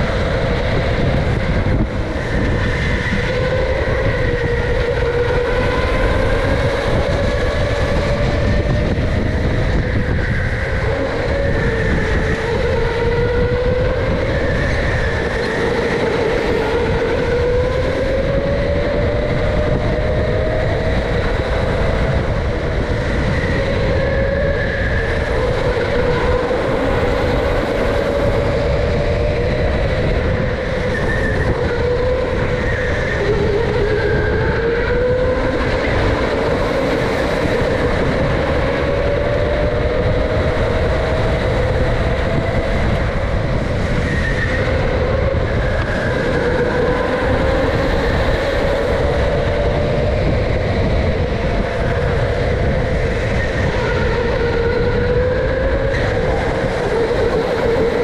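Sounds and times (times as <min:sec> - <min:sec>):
electric motor whine: 0:00.0 - 0:58.0.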